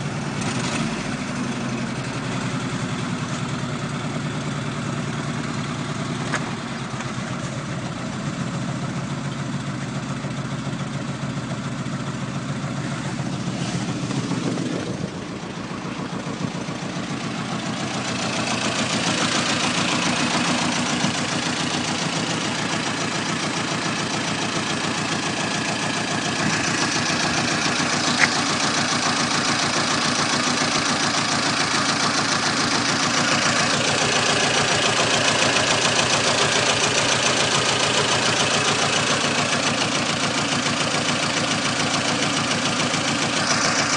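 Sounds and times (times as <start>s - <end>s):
car engine knocking: 0.0s - 43.9s.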